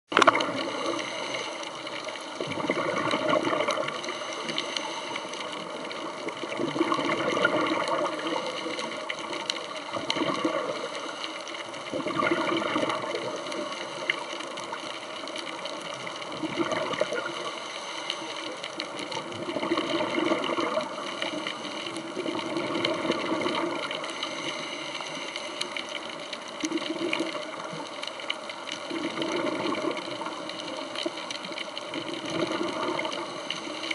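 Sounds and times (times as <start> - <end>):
underwater rush of water: 0.1 - 33.9.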